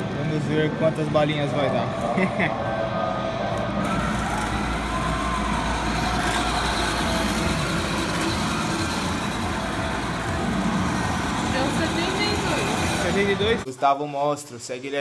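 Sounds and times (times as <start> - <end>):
background crowd: 0.0 - 13.6
game machine noise: 1.2 - 13.6.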